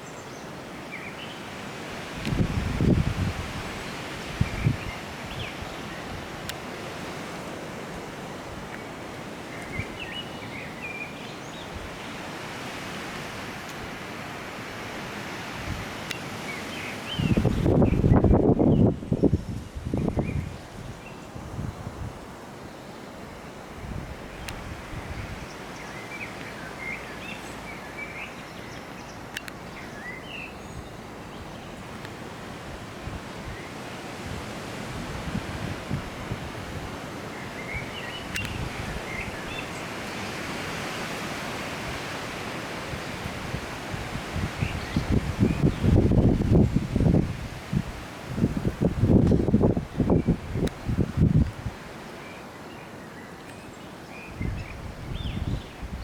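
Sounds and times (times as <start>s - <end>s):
wind: 0.0s - 56.0s.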